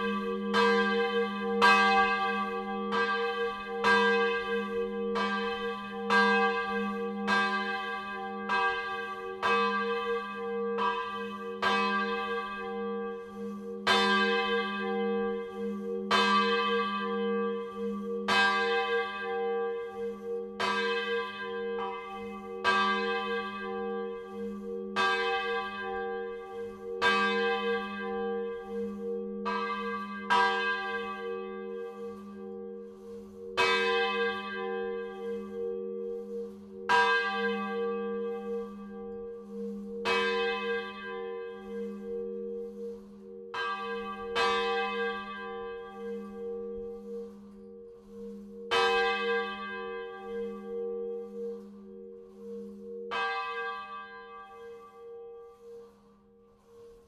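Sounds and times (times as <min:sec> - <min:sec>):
church bell strokes: 0:00.0 - 0:57.0.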